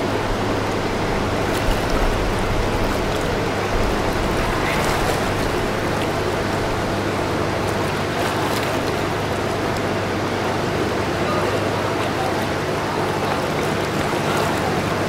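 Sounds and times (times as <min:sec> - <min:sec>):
boat engine drone: 0:00.0 - 0:15.0
hiss of water and wind: 0:00.0 - 0:15.0.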